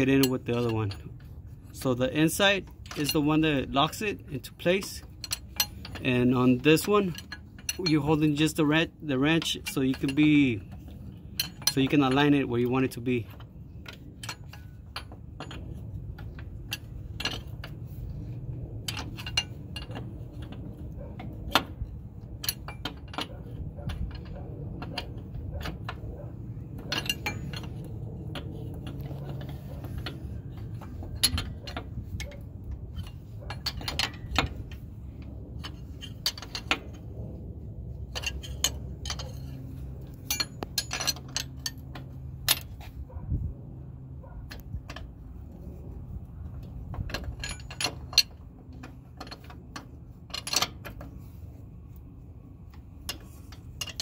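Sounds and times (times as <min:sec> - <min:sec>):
low background rumble: 0:00.0 - 0:54.0
wrenches clinking on metal: 0:00.0 - 0:54.0.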